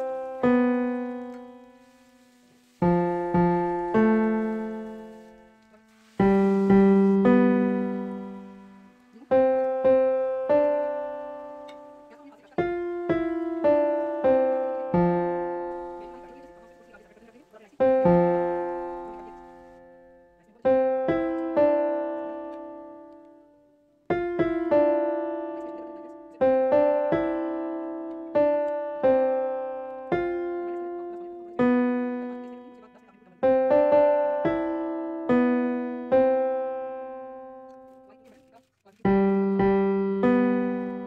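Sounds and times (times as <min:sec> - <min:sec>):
gentle piano chords: 0:00.0 - 0:41.0.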